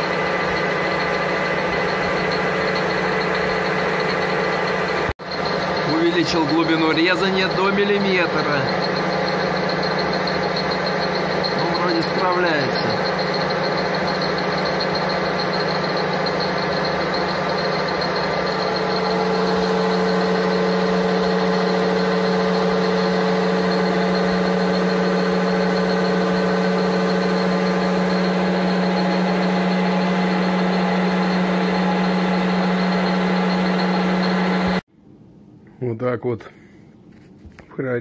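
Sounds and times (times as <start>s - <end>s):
higher machine tone: 0.0s - 34.8s
lathe hum with cutting whine: 0.0s - 34.8s.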